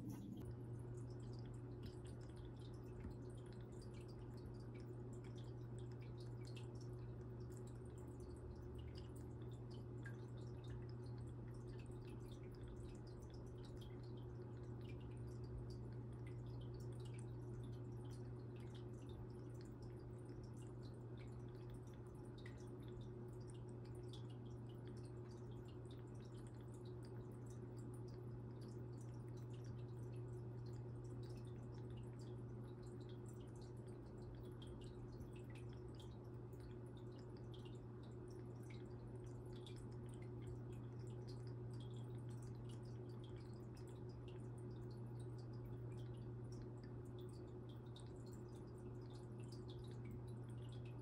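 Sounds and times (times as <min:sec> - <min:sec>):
aquarium filter hum: 0:00.0 - 0:51.0
water dripping and trickling: 0:00.0 - 0:51.0.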